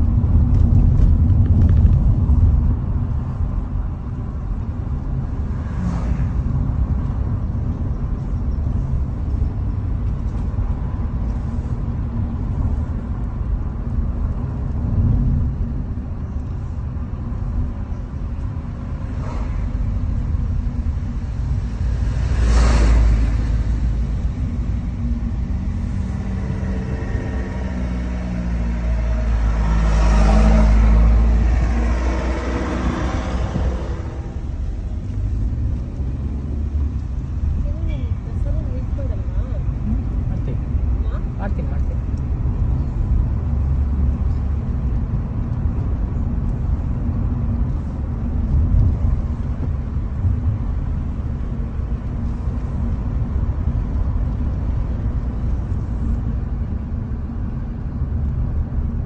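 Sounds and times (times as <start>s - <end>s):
car engine rumble: 0.0s - 59.0s
tyres on asphalt: 0.0s - 59.0s.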